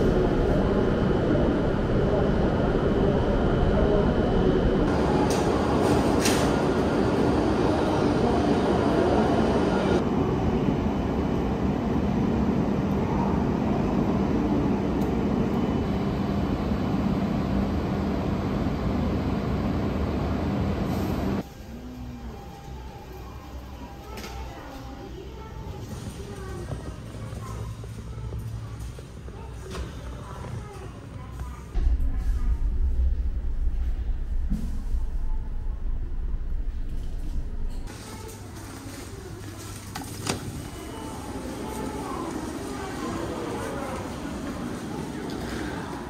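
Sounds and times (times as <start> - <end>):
train platform rumble and hum: 0.0 - 46.0.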